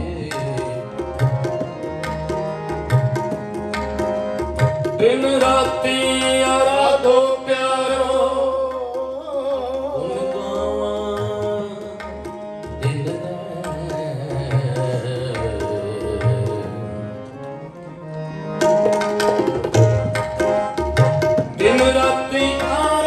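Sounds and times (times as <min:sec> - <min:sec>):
tabla drumming: 0:00.0 - 0:17.4, 0:18.5 - 0:23.0
harmonium chords: 0:00.0 - 0:23.0.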